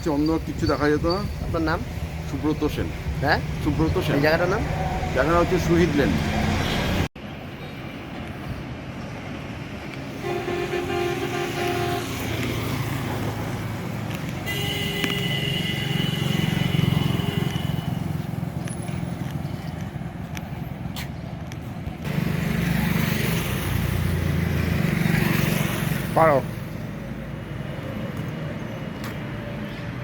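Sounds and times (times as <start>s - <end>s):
traffic rumbling past: 0.1s - 30.0s.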